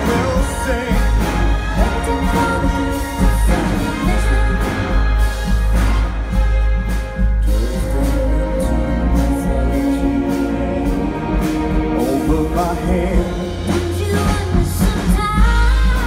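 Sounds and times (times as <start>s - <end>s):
people singing: 0.0s - 6.4s, 7.4s - 16.0s
symphony orchestra playing: 0.0s - 16.0s.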